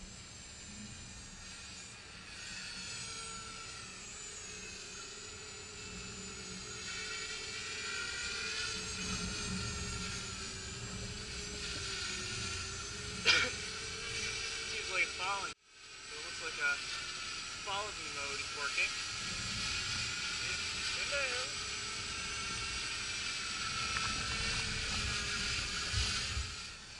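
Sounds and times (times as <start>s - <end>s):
drone propellers whining: 0.0s - 26.9s.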